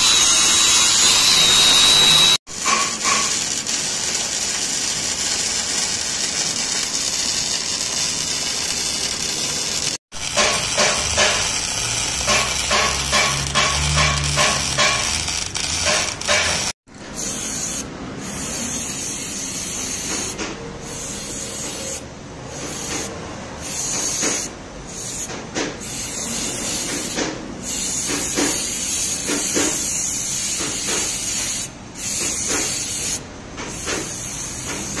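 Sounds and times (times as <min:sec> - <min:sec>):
aerosol spray can hissing: 0:00.0 - 0:13.7, 0:17.2 - 0:35.0
welder crackling and buzzing: 0:00.0 - 0:20.3, 0:26.0 - 0:35.0.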